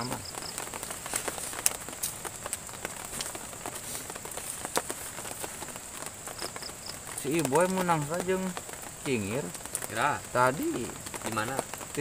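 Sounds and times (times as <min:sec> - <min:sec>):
drips tapping on a tarp: 0:00.0 - 0:12.0
faint hiss: 0:00.0 - 0:12.0.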